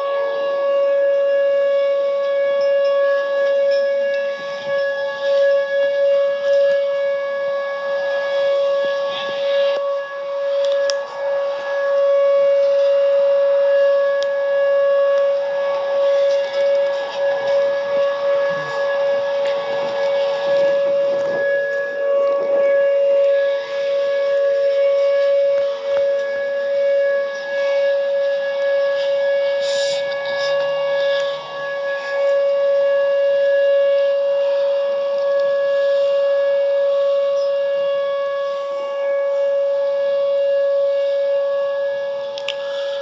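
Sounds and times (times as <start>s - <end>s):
warning siren steady tone: 0.0s - 43.0s.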